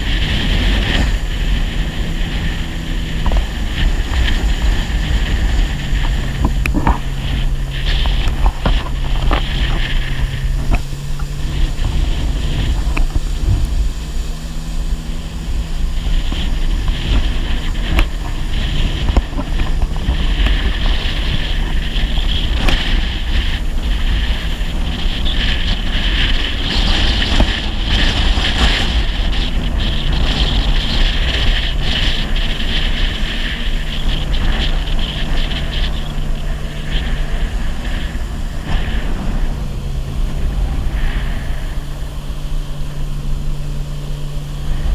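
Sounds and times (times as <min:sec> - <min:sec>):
water rushing past hull: 0:00.0 - 0:44.9
watercraft engine running: 0:00.0 - 0:44.9
wind buffeting microphone: 0:00.0 - 0:44.9.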